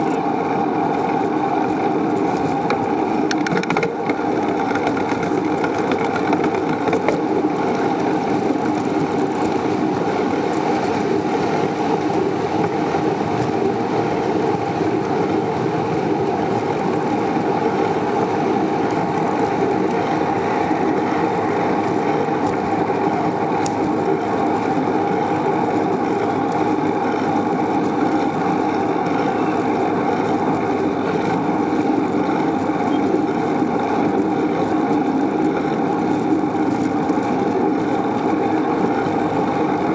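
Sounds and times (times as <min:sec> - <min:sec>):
bicycle tyre rumble: 0:00.0 - 0:39.9.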